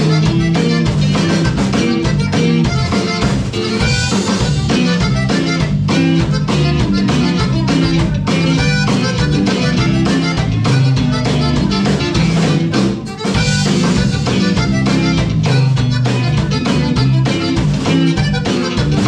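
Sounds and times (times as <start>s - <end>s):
bass line: 0.0s - 19.0s
drums: 0.0s - 19.0s
latin band playing: 0.0s - 19.0s.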